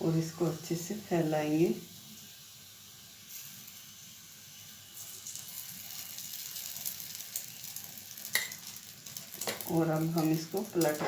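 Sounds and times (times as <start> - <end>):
egg and oil sizzling: 0.0 - 11.0.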